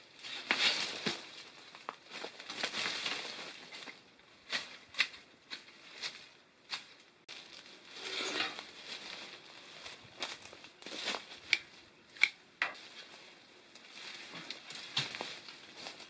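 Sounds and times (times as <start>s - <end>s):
leaves and stems rustling: 0.0s - 16.0s.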